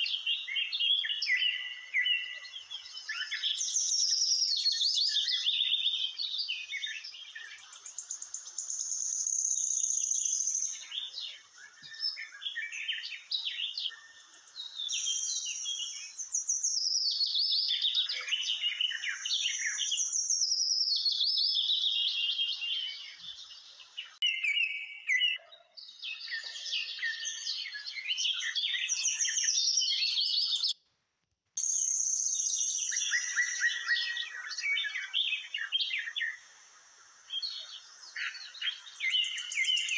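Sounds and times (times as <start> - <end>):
birds chirping and singing: 0.0 - 30.8, 31.6 - 39.9.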